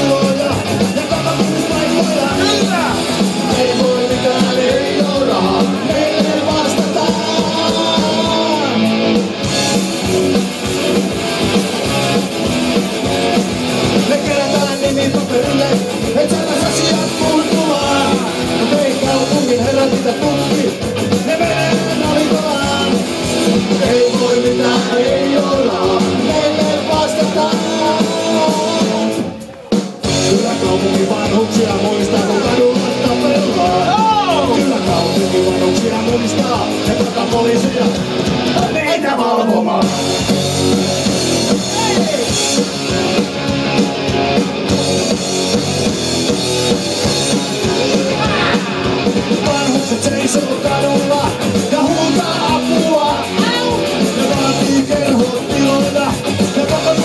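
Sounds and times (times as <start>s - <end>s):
sung vocals: 0.0s - 9.0s, 13.8s - 29.4s, 30.0s - 42.6s, 47.3s - 57.0s
punk rock band playing: 0.0s - 57.0s.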